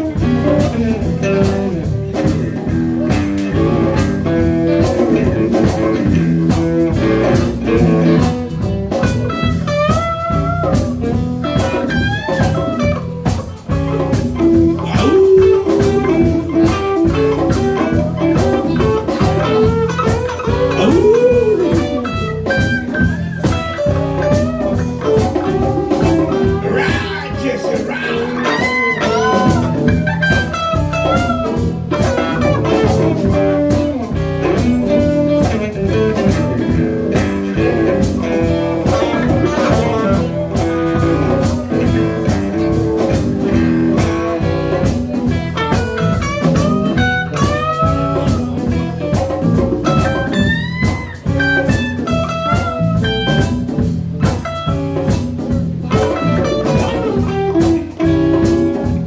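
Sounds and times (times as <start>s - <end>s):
bass and drum groove: 0.0s - 59.0s
blues guitar lead: 0.0s - 59.0s.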